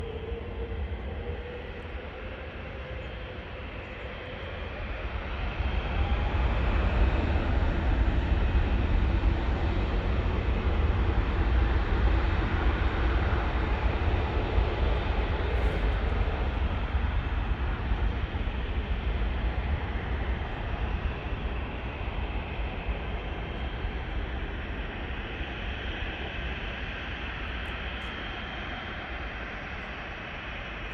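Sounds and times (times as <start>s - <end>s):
jet engines roaring at takeoff: 0.0s - 30.9s.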